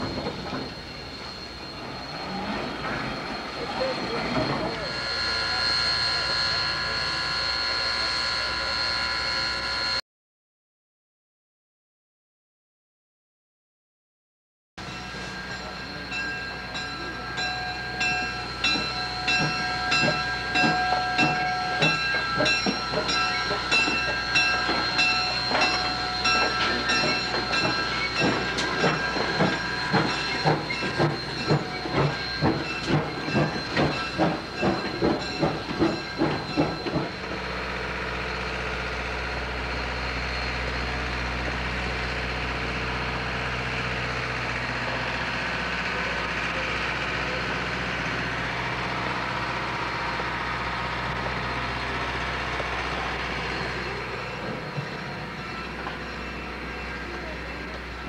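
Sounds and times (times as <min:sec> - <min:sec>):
steady ringing tones: 0:00.0 - 0:09.9, 0:14.8 - 0:45.0, 0:45.8 - 0:58.0
steam locomotive exhaust chuffing: 0:00.0 - 0:10.0, 0:14.8 - 0:58.0.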